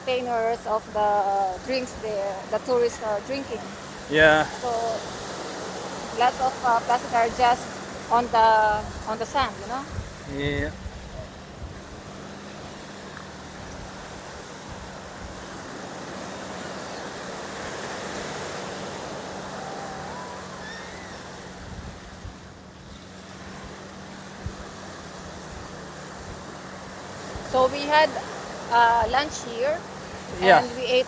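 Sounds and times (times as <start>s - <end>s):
small surf on sandy beach: 0.0s - 31.0s
wind on microphone: 0.0s - 31.0s.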